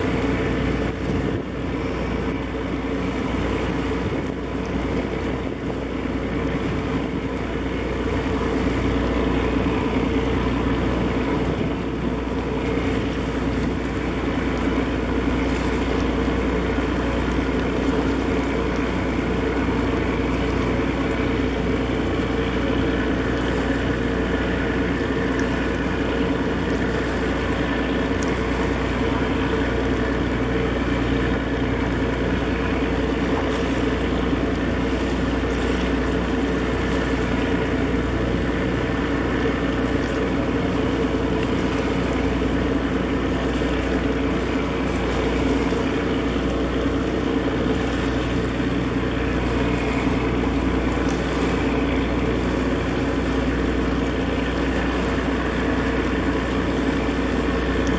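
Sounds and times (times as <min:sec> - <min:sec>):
ship diesel machinery drone: 0:00.0 - 0:57.9.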